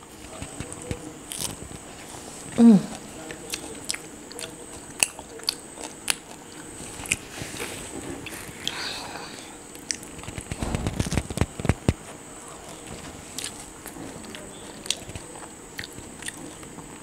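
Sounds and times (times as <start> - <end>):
pizza crust crunching: 0.0 - 17.0.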